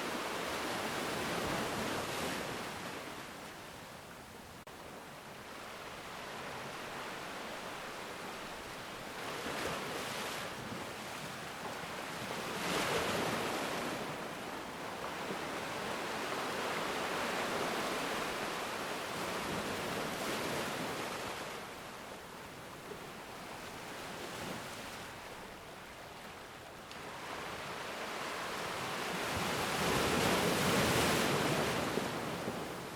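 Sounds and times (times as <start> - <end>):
ocean waves breaking on shore: 0.0 - 32.9.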